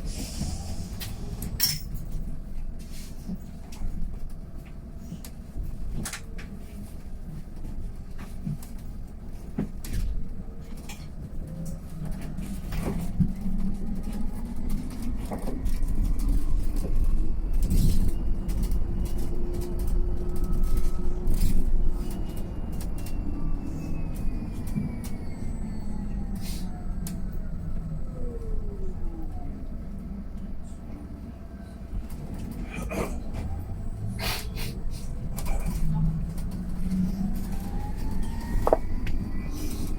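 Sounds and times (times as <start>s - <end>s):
electric bus pulling away: 0.0s - 8.4s, 9.9s - 39.9s.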